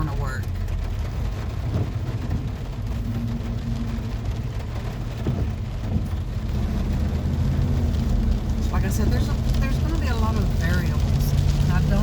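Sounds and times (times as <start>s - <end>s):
rain hissing on vehicle: 0.0s - 12.0s
van driving rumble: 0.0s - 12.0s.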